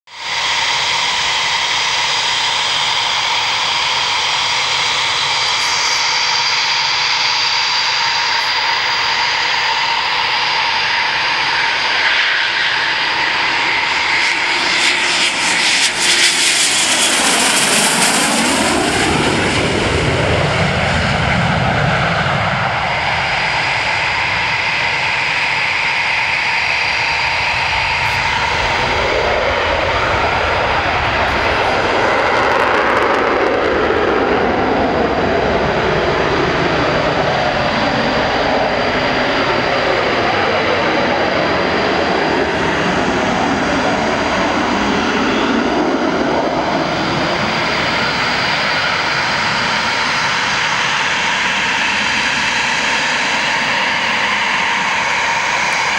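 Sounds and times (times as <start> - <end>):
jet engines whining: 0.1 - 55.9
jet passing overhead: 0.1 - 55.9
deep jet rumble: 0.2 - 55.9.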